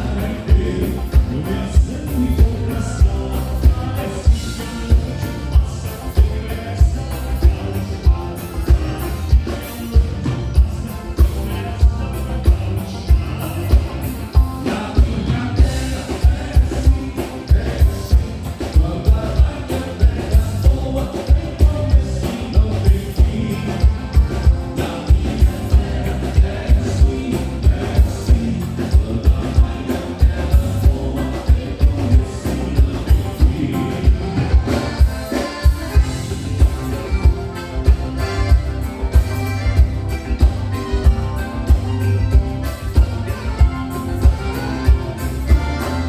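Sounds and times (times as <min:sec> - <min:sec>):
live band playing dance music: 0:00.0 - 0:46.0.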